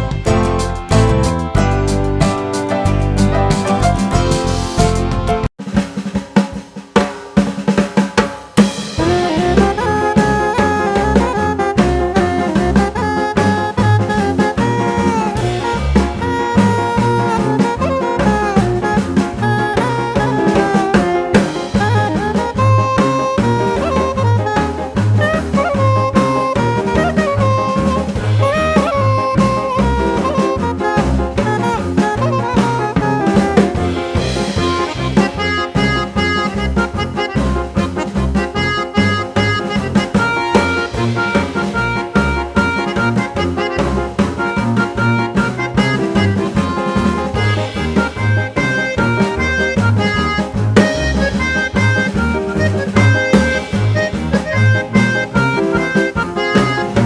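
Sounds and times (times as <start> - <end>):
snare and bass drum fill: 0.0 - 57.0
swing band playing: 0.0 - 57.0
upbeat jazz music with saxophone: 0.0 - 57.0.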